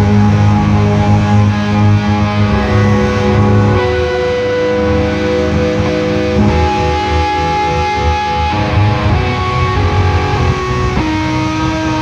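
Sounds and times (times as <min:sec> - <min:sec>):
electric and pedal steel guitar chords: 0:00.0 - 0:12.0.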